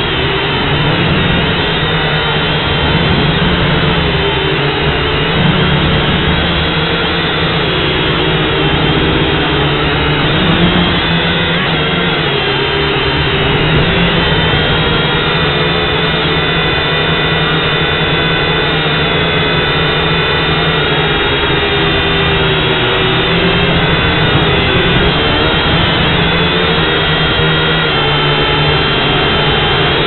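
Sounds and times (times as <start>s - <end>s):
quadcopter motors whining and buzzing: 0.0s - 30.0s
rushing noise: 0.0s - 30.0s.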